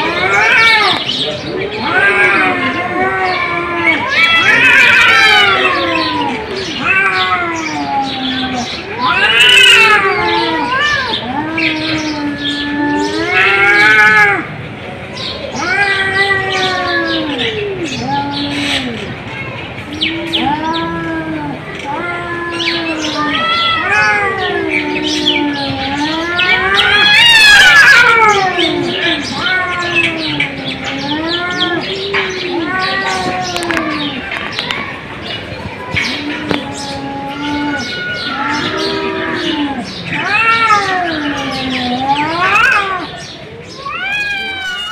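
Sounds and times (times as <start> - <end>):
cat yowling: 0.0 - 14.5, 15.5 - 19.1, 19.9 - 34.3, 36.1 - 43.2, 43.8 - 44.9.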